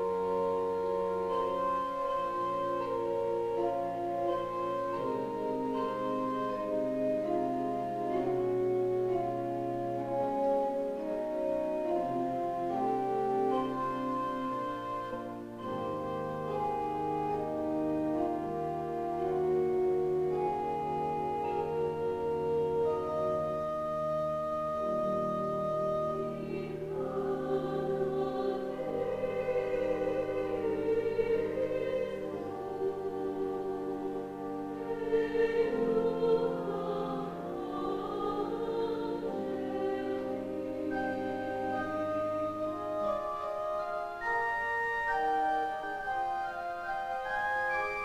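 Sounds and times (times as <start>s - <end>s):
pipe organ chords: 0.0s - 48.0s.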